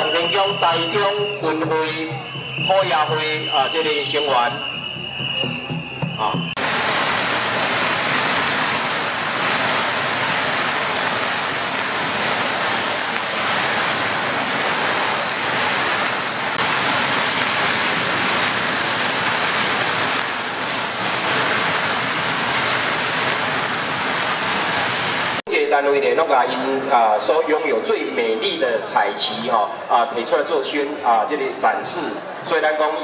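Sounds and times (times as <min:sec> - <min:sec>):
firecrackers crackling: 0:00.0 - 0:27.8.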